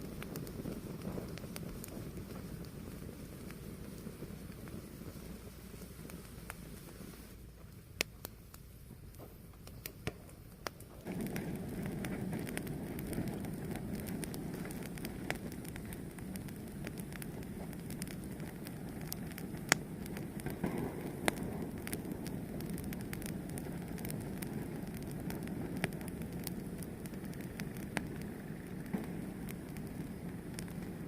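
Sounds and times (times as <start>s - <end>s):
fire burning with crackles: 0.0s - 31.0s
loud pops of fire: 0.0s - 31.0s.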